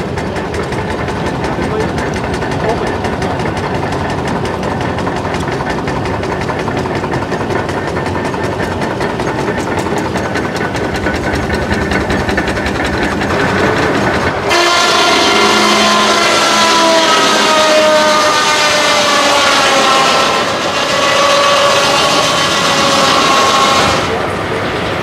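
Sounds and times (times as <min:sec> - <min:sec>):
machinery clattering: 0:00.0 - 0:25.0
machinery whining tones: 0:00.0 - 0:25.0.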